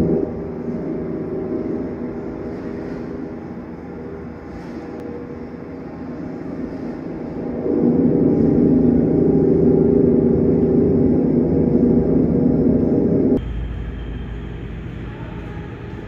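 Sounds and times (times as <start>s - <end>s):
mechanical drone with held tones: 0.0s - 16.0s.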